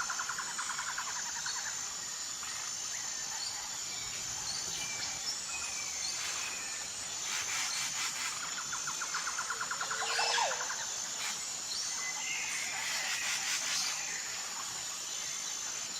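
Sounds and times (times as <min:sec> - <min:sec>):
high-pitched insect drone: 0:00.0 - 0:15.9.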